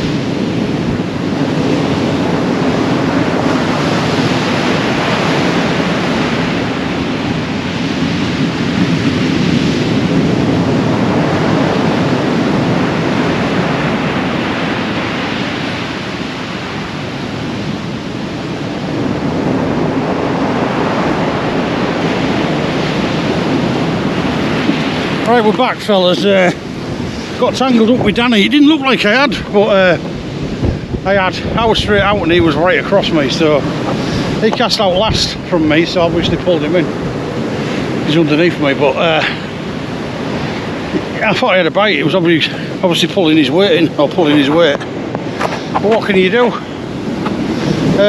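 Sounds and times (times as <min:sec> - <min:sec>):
large waves breaking: 0:00.0 - 0:48.0
wind buffeting microphone: 0:00.0 - 0:48.0.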